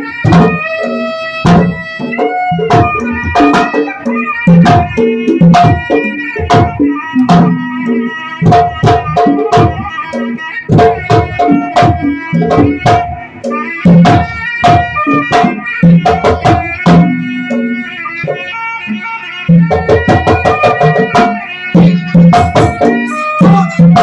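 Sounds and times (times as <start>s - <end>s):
hand drum strokes: 0.0s - 24.0s.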